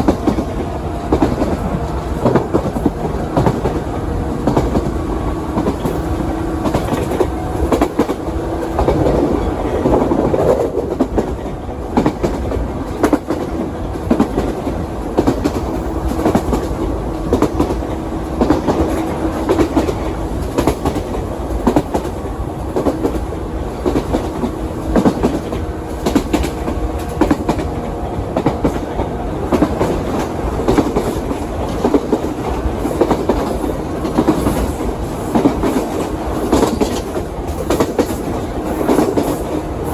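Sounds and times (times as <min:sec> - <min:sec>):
train running rumble: 0:00.0 - 0:39.9
wheels clacking over rail joints: 0:00.0 - 0:39.9.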